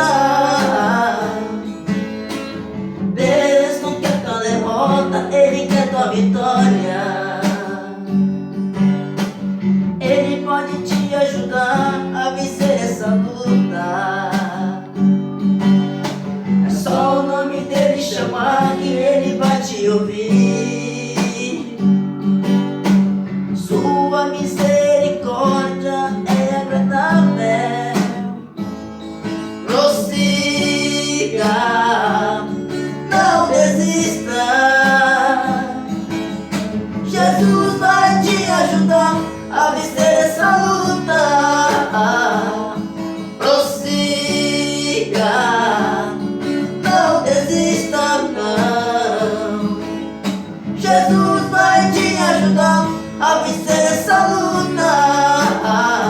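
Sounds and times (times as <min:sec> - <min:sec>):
men singing a hymn: 0:00.0 - 0:02.3, 0:03.1 - 0:08.3, 0:09.9 - 0:15.0, 0:16.5 - 0:22.1, 0:23.6 - 0:28.6, 0:29.6 - 0:56.0
acoustic guitar strummed and plucked: 0:00.0 - 0:56.0.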